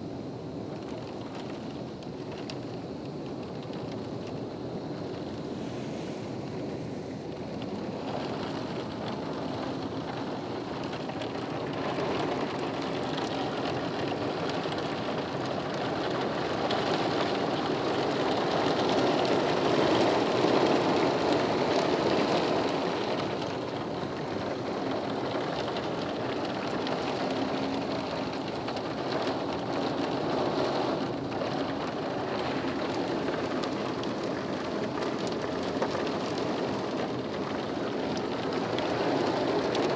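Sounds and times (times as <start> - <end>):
heavy rain: 0.0 - 39.9
strong storm wind: 0.0 - 39.9.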